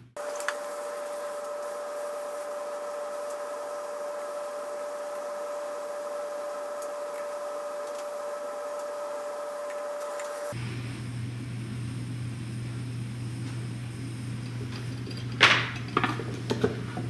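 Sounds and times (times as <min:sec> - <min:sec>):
micro torch hissing: 0:00.1 - 0:15.0.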